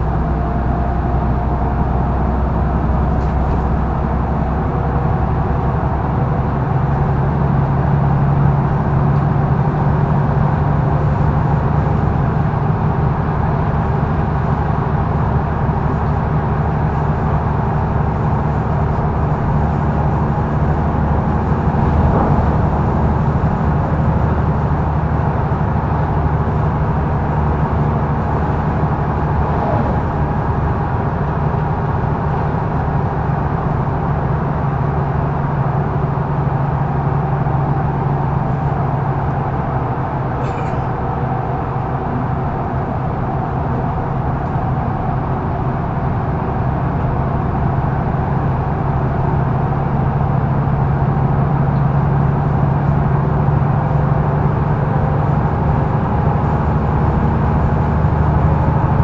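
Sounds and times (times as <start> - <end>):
bus diesel engine drone: 0.0 - 59.0
road and tyre noise: 0.0 - 59.0.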